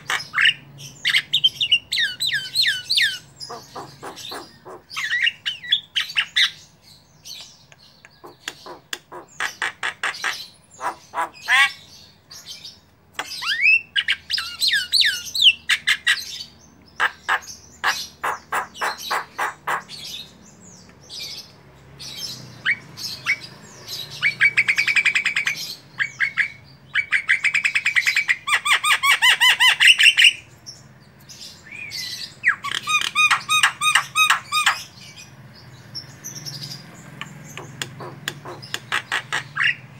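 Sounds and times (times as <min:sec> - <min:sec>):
bird singing harsh notes and whistles: 0:00.0 - 0:30.8, 0:31.4 - 0:39.9.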